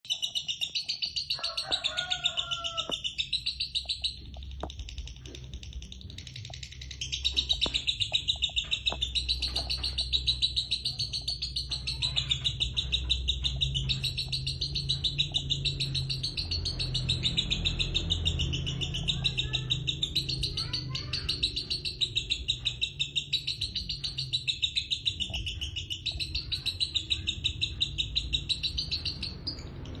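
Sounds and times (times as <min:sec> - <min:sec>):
lovebird fast chatter: 0:00.0 - 0:30.0.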